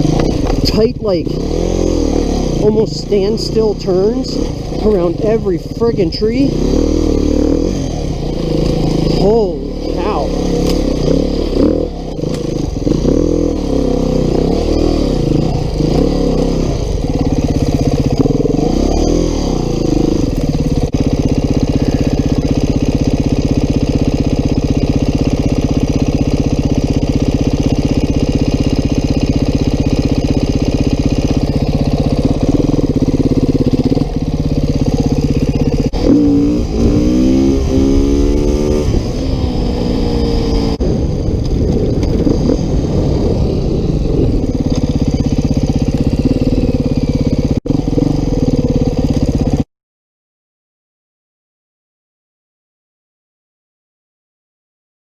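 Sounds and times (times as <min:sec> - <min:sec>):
motorcycle engine revving: 0:00.0 - 0:49.7.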